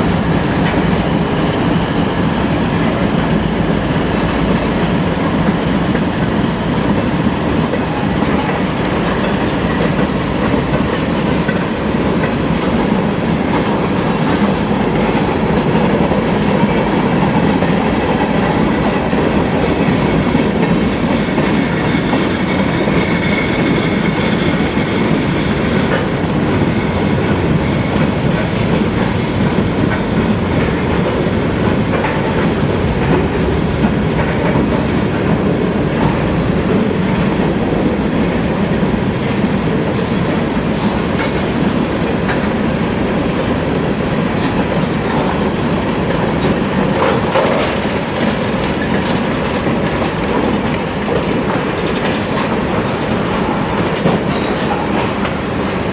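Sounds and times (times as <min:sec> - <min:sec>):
clickety-clack over rail joints: 0:00.0 - 0:55.9
train wheels rumbling on rail: 0:00.0 - 0:55.9.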